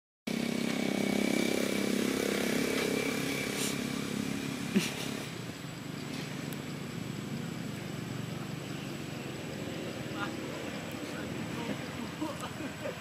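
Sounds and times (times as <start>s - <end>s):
motorcycle engine running: 0.3s - 12.4s.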